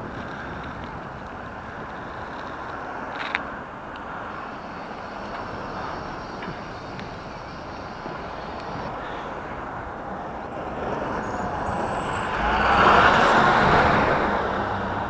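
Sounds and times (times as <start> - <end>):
cars passing: 0.0 - 15.0
wind and road noise: 0.0 - 15.0.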